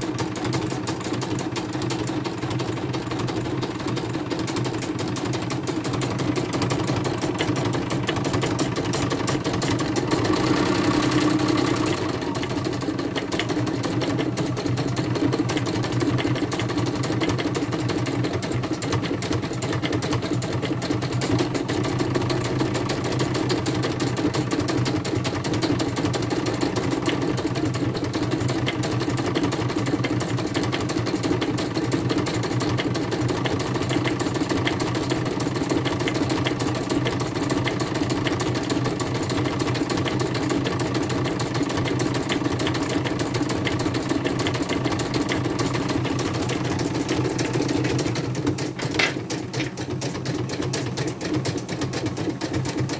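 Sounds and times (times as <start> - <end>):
embroidery machine stitching: 0.0 - 52.9.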